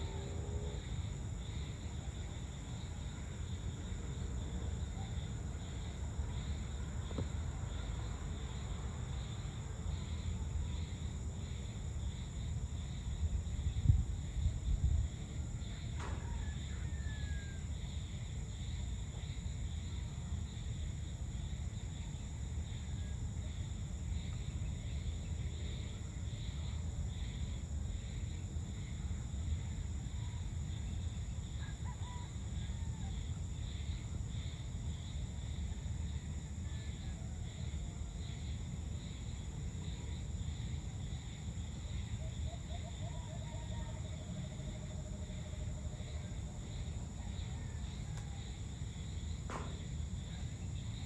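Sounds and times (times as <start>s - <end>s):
insects trilling: 0.0s - 51.0s.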